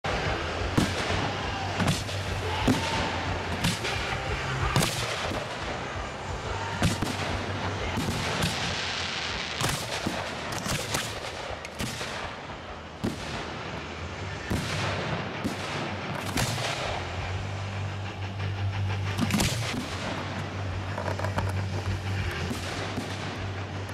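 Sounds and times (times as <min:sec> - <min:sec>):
fireworks bangs: 0:00.0 - 0:23.9
steady low hum: 0:00.0 - 0:23.9.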